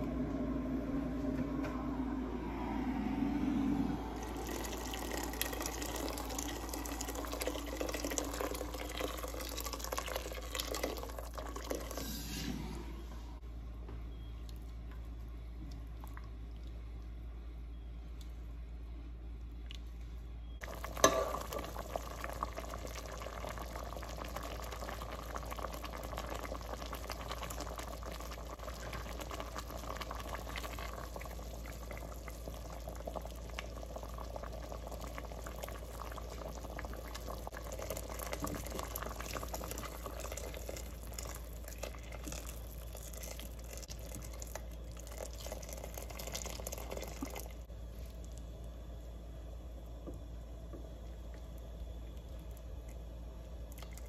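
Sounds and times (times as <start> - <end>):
water bubbling in pot: 2.4 - 12.9, 20.6 - 54.0.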